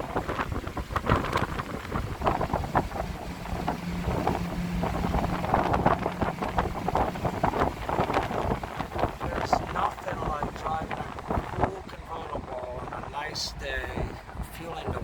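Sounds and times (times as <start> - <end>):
car engine droning: 0.0 - 14.8
road noise: 0.0 - 15.0
wind buffeting microphone: 0.0 - 15.0.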